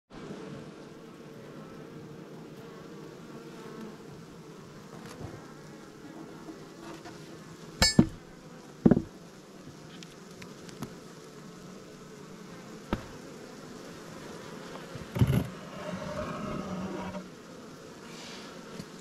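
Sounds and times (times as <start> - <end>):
honeybees humming: 0.1 - 19.0.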